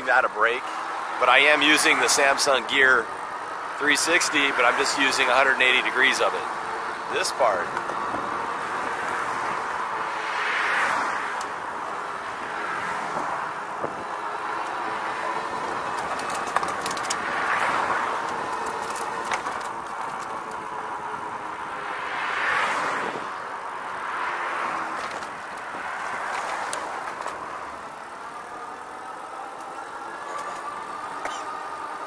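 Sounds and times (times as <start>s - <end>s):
cars passing: 0.0s - 32.0s
electric bike riding: 0.0s - 32.0s.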